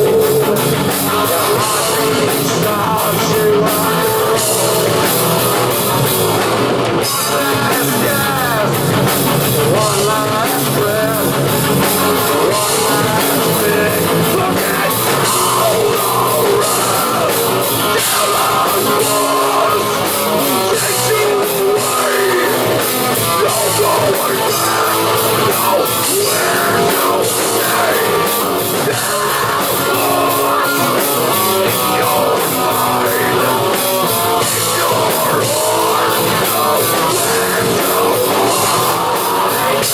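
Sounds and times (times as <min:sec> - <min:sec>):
drum kit: 0:00.0 - 0:39.9
electric guitars bending pitch: 0:00.0 - 0:39.9.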